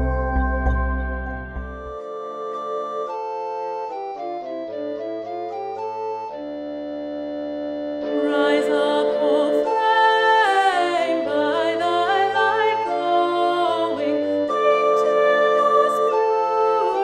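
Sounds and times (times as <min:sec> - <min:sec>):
melody with wavering vibrato: 0:00.0 - 0:04.4, 0:05.8 - 0:17.0
organ chords: 0:00.0 - 0:17.0.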